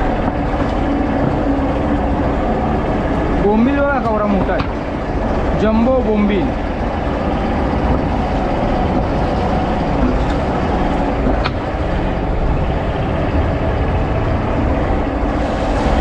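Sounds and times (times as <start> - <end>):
boat diesel engine rumbling: 0.0 - 16.0.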